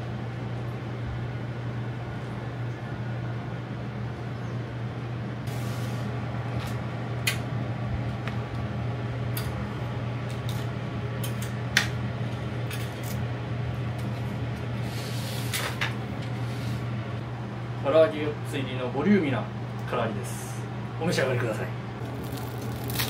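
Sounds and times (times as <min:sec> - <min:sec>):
low kitchen hum: 0:00.0 - 0:23.0.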